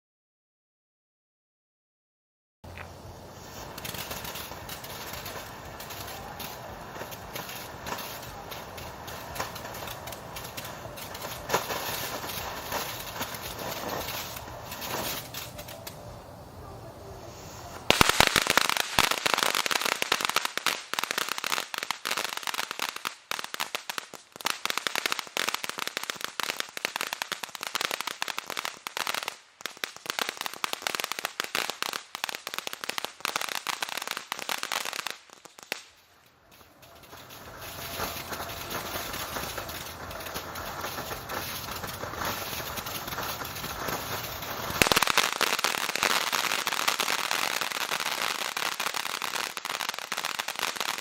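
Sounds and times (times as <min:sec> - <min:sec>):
firework crackling: 0:02.6 - 0:51.0.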